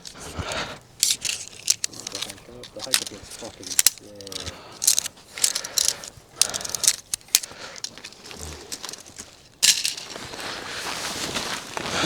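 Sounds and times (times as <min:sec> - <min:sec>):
footsteps on gravel: 0:00.0 - 0:12.0.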